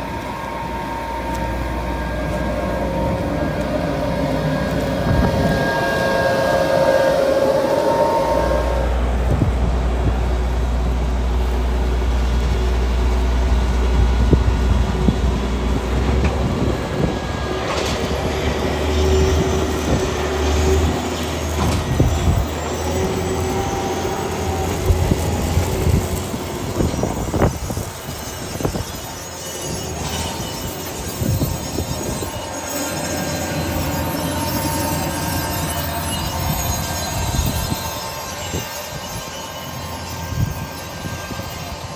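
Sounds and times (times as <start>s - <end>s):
high squeals from seeding gear: 0.0s - 9.2s, 17.1s - 41.9s
tractor engine drone: 0.0s - 41.9s.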